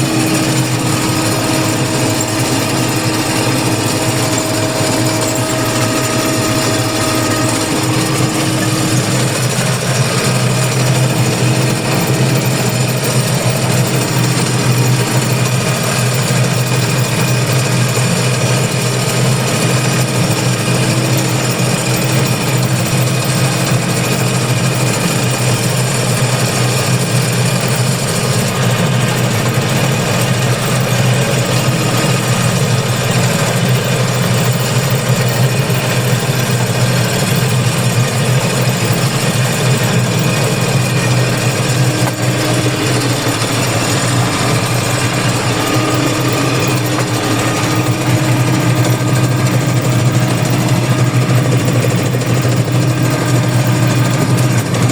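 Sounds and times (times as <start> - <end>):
machinery engine humming: 0.0 - 54.9
mechanical clatter: 0.0 - 54.9.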